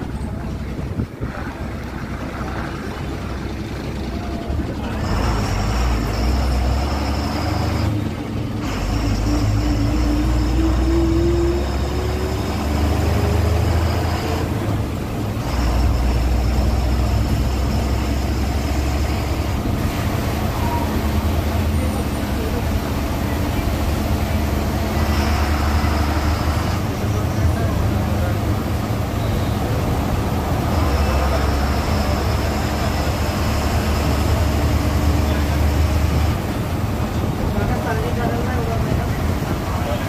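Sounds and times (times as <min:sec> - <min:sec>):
bus engine rumbling: 0:00.0 - 0:40.0
road noise: 0:00.0 - 0:40.0.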